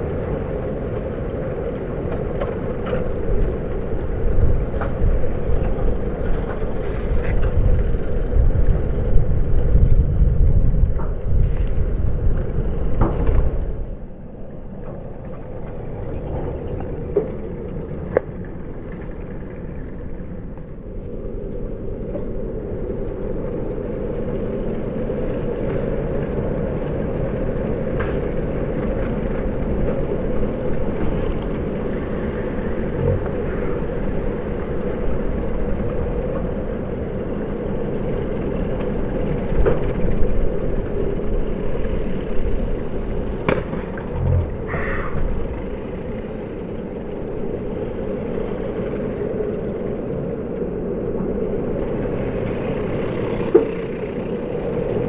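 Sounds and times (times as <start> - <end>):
road noise: 0.0 - 55.0
wind rumble: 0.0 - 55.0.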